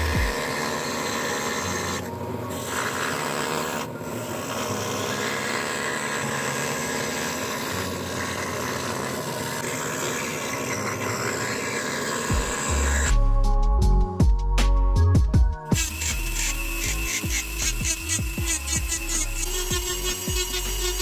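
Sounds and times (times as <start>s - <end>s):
scroll saw cutting plywood: 0.0s - 13.1s, 15.7s - 21.0s
saw motor hum: 0.0s - 13.2s, 15.7s - 21.0s.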